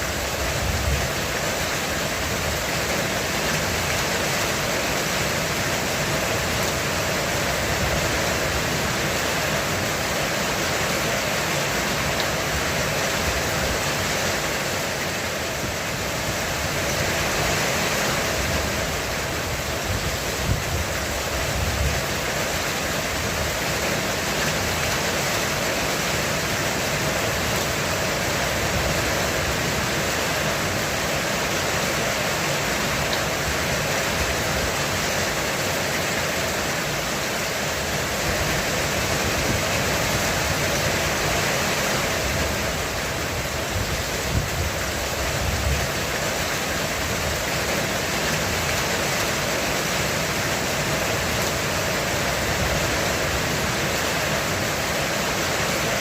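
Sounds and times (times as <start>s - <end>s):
heavy rain drumming on a roof: 0.0s - 56.0s.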